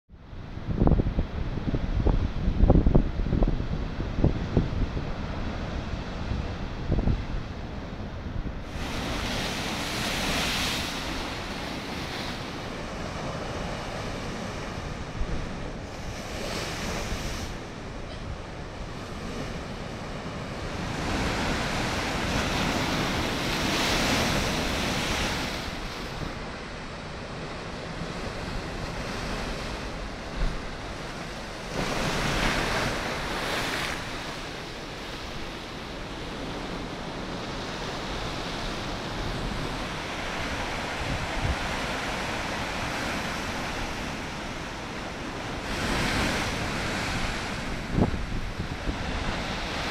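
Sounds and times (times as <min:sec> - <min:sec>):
wind buffeting the microphone: 0:00.1 - 0:49.9.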